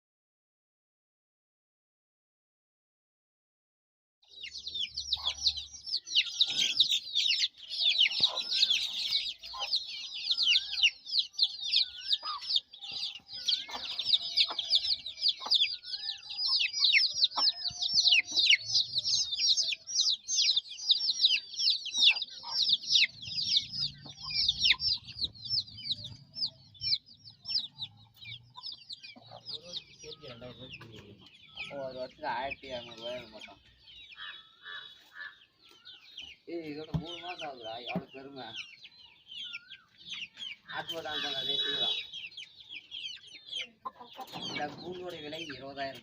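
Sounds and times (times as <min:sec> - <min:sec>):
chickens peeping: 0:04.2 - 0:46.0
lower chicken calls: 0:04.4 - 0:31.9, 0:34.1 - 0:37.3, 0:39.2 - 0:45.6.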